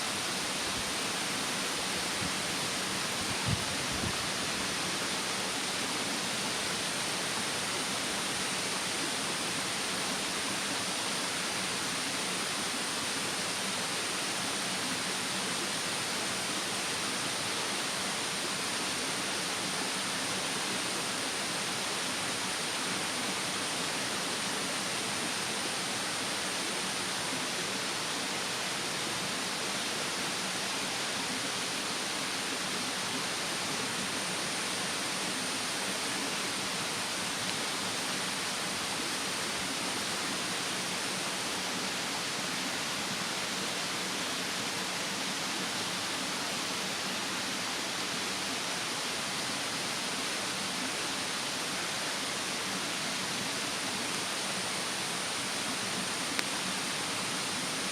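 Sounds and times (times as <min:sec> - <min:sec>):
mountain stream rushing: 0:00.0 - 0:57.9.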